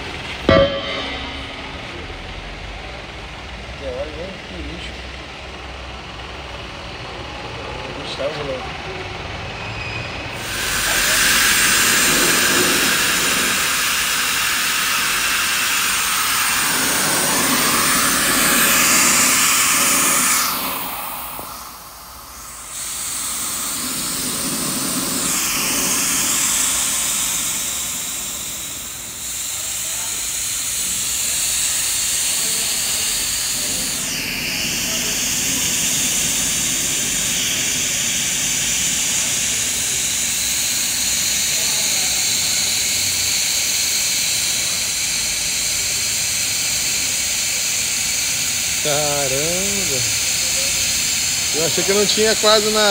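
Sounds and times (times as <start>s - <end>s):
gas hissing from cylinder: 10.2s - 52.9s.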